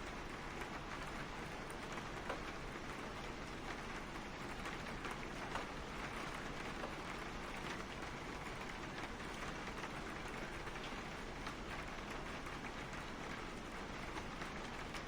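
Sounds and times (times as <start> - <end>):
rain pattering on a car: 0.0 - 15.0.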